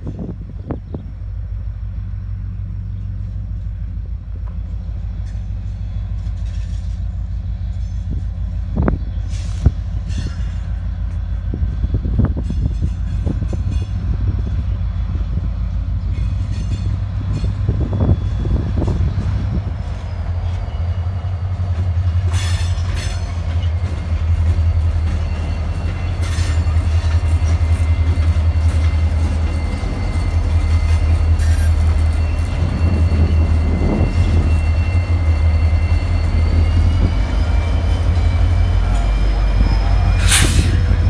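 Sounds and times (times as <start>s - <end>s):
diesel locomotives rumbling: 0.0s - 41.0s.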